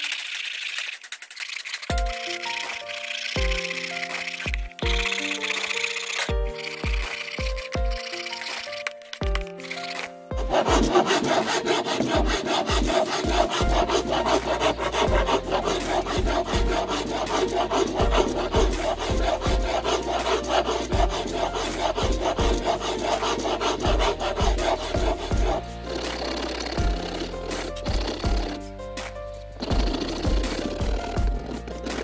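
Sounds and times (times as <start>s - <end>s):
hand file rasping on wood: 0.0s - 28.7s, 29.6s - 32.0s.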